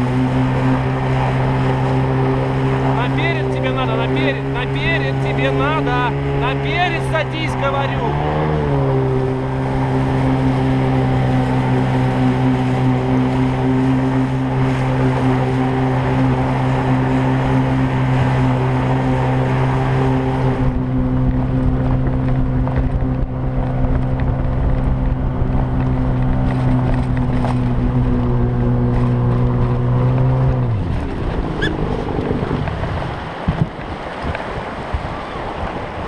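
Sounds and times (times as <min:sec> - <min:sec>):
rushing river water: 0:00.0 - 0:36.0
water-jet boat motor: 0:00.0 - 0:36.0
wind: 0:00.0 - 0:36.0.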